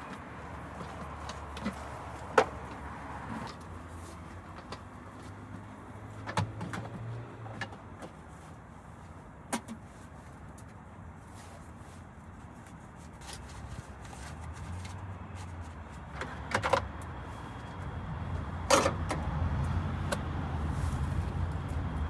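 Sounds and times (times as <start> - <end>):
background noise: 0.0 - 22.0.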